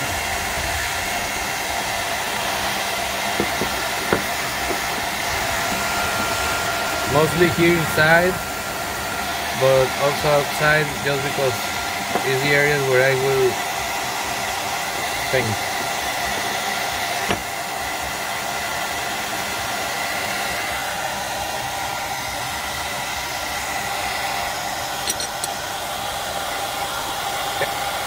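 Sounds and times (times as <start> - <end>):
hair dryer blowing: 0.0 - 28.0.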